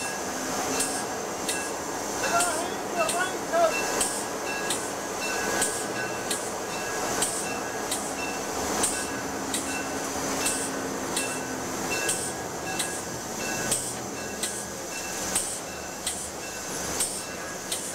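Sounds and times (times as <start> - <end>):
locomotive running rumble: 0.0 - 17.9
sharp click and ring: 0.8 - 1.8, 3.8 - 17.8.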